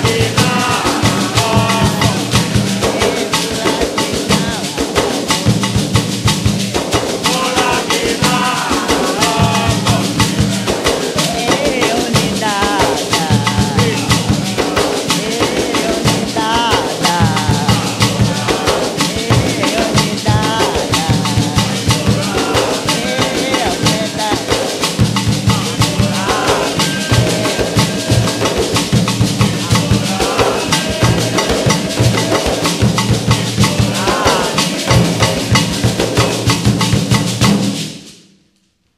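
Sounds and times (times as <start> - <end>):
voices singing a chant: 0.0 - 37.3
drums playing fast rhythm: 0.0 - 38.2
shakers: 0.0 - 38.2.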